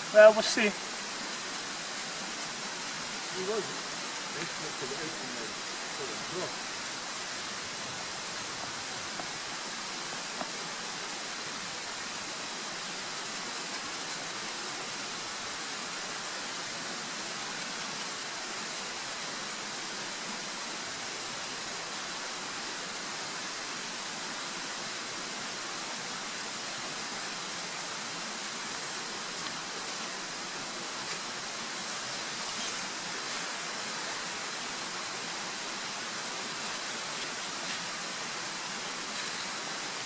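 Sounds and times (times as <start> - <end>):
steady outdoor hiss: 0.0 - 40.0.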